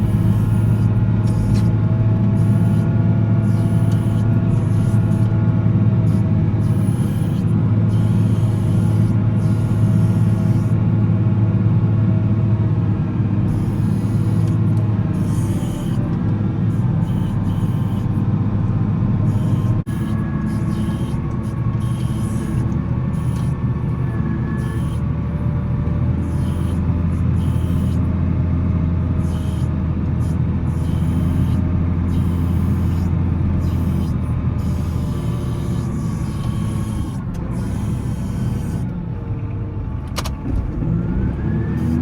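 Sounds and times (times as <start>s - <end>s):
wheel loader diesel engine: 0.0s - 42.0s.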